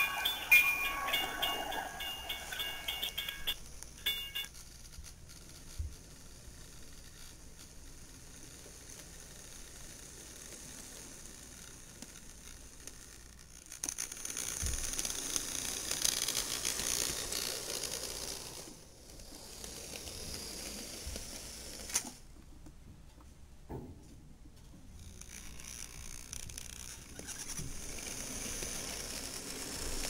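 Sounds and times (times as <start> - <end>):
model train running on track: 0.0 - 5.0, 5.6 - 22.1, 25.2 - 30.0.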